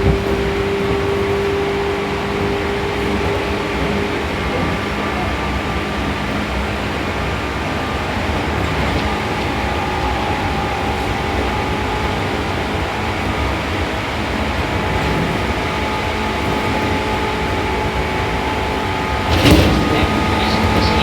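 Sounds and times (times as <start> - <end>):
faint steady tones: 0.0 - 21.0
train wheels rumbling on rail: 0.0 - 21.0.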